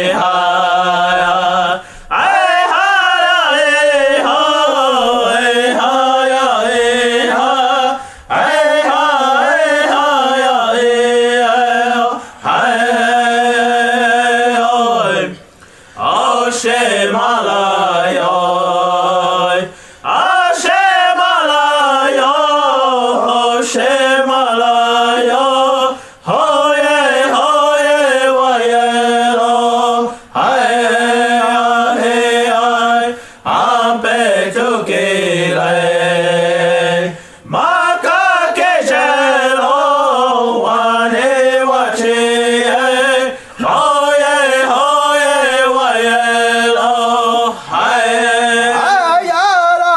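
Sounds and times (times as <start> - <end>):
person chanting prayer song: 0.0 - 15.4, 16.0 - 49.9.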